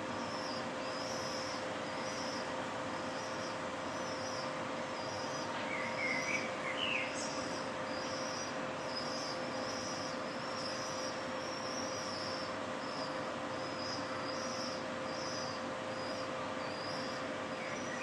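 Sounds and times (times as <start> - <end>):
city background hum: 0.0 - 18.0.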